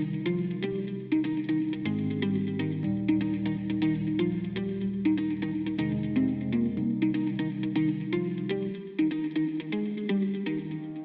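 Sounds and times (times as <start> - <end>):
electric guitar music: 0.0 - 11.0.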